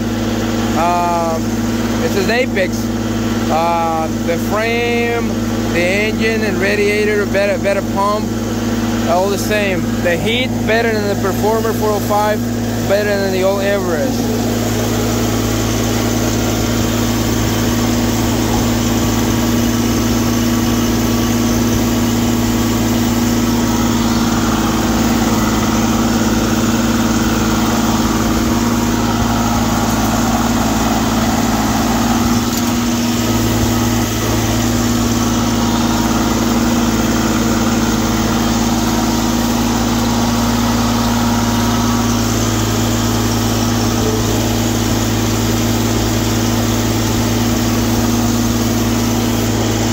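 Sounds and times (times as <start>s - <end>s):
gas engine humming steadily: 0.0s - 49.9s.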